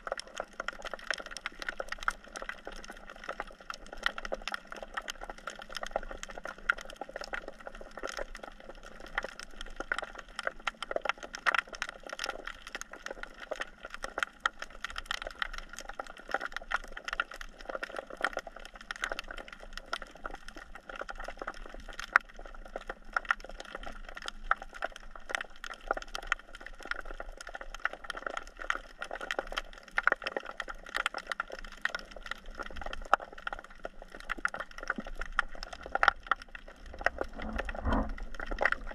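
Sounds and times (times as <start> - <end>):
snapping shrimp crackling underwater: 0.0 - 38.9.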